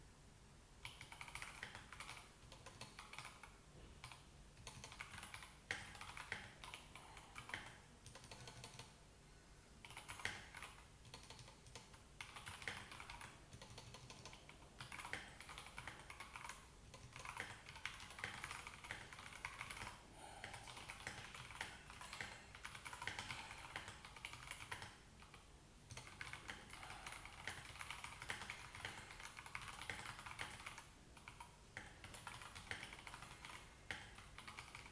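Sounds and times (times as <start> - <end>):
mechanical keyboard typing: 0.8 - 8.9, 9.8 - 34.9.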